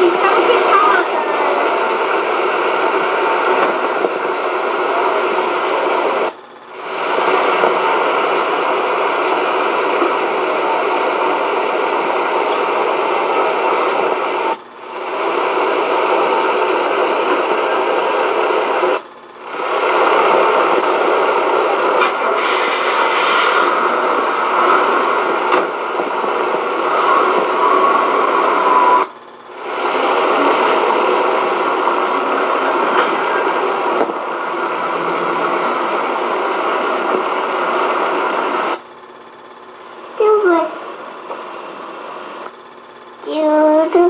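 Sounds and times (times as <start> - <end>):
film soundtrack hiss: 0.0 - 44.0.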